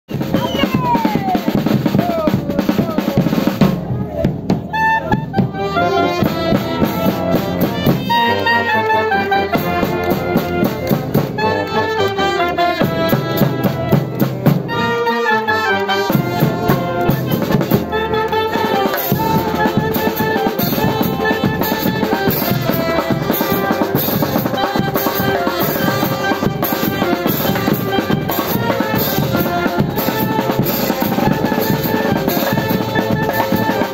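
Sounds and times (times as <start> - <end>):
steady drum beat: 0.1 - 8.4, 9.4 - 11.4, 12.6 - 14.9, 16.0 - 33.9
marching wind band playing: 0.1 - 33.9.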